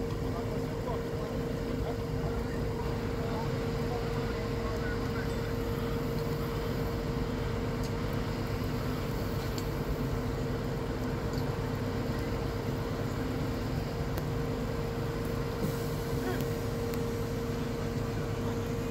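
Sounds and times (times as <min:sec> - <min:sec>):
diesel engine rumble: 0:00.0 - 0:18.9
mid-pitched whine: 0:00.0 - 0:18.9.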